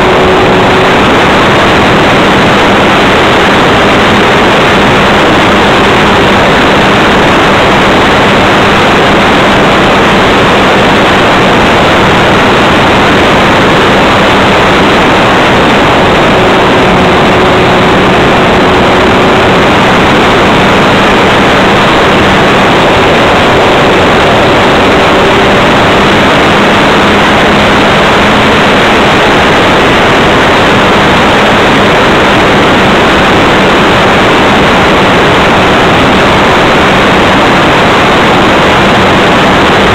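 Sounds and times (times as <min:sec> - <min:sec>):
motor and propeller drone: 0:00.0 - 0:39.9
wind rush hiss: 0:00.0 - 0:39.9.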